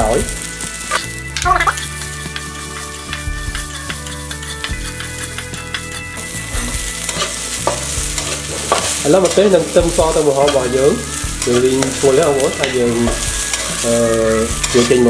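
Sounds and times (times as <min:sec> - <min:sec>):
garlic and chilies sizzling in wok: 0:00.0 - 0:15.0
metal spatula scraping wok: 0:00.4 - 0:15.0.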